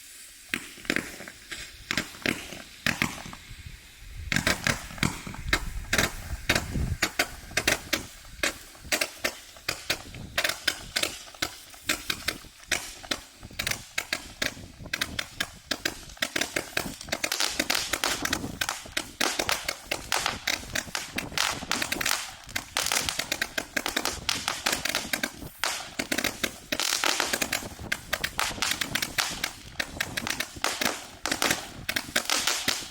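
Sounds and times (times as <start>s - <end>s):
firework cake firing sharp pops: 0.0s - 32.9s.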